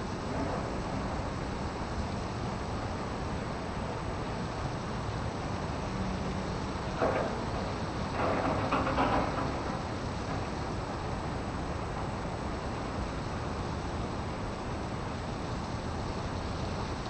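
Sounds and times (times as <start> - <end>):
background rumble and hiss: 0.0 - 17.0.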